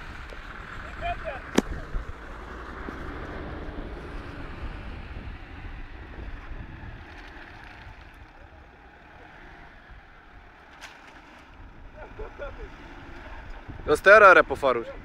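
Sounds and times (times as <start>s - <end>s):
wind buffeting microphone: 0.0s - 8.8s, 11.4s - 15.0s
car engine running: 0.0s - 15.0s.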